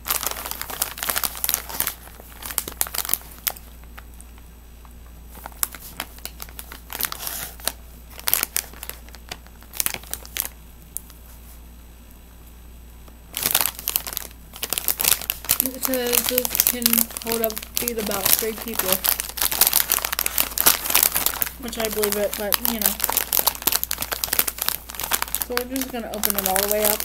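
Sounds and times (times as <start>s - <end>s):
plastic bag crinkling: 0.0s - 4.4s, 5.3s - 11.4s, 13.3s - 27.0s.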